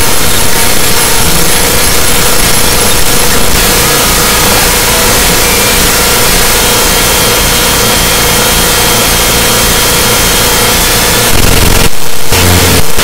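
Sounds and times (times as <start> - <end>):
distorted wall of noise: 0.0 - 13.0
heavy low pulse: 0.0 - 13.0
steady droning tone: 0.0 - 13.0.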